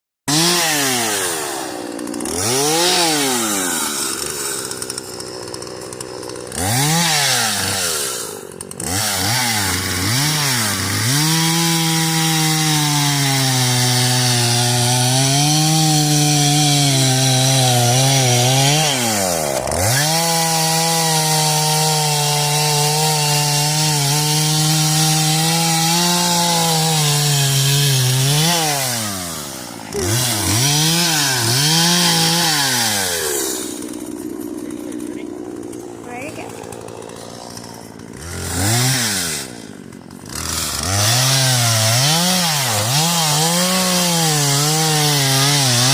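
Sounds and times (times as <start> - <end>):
chainsaw cutting wood: 0.3 - 45.9
chainsaw revving: 0.3 - 45.9.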